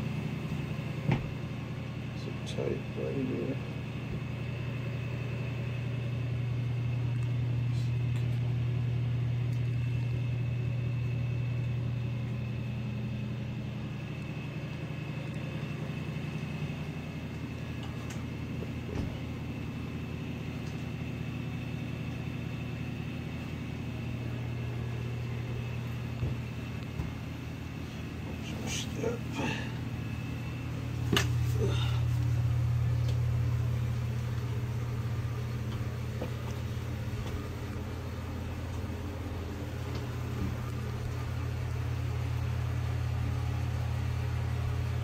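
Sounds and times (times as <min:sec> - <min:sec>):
ventilation hum: 0:00.0 - 0:45.0.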